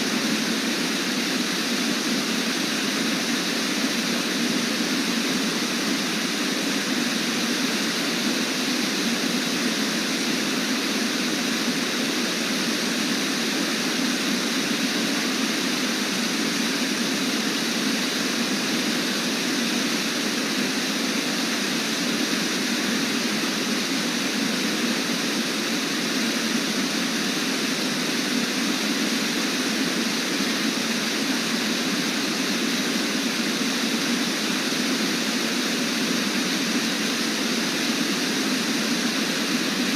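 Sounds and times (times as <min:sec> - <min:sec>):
waterfall roar: 0:00.0 - 0:39.9.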